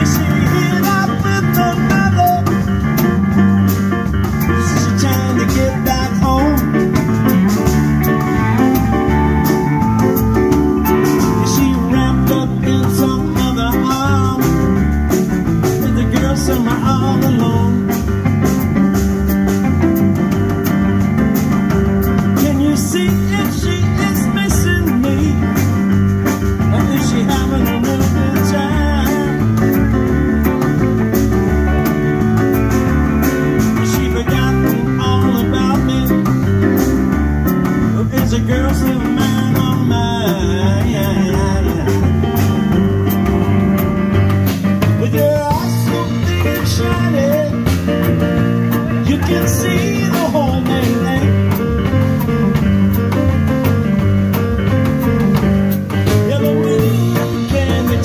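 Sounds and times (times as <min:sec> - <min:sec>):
live blues band playing: 0:00.0 - 0:58.0.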